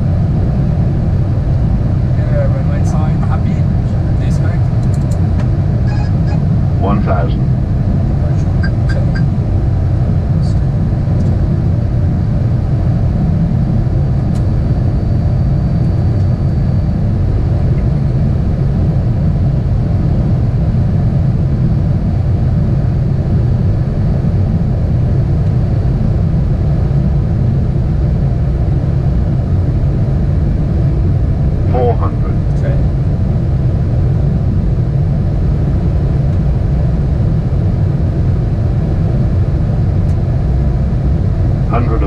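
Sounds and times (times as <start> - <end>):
aircraft engine rumble: 0.0 - 42.0.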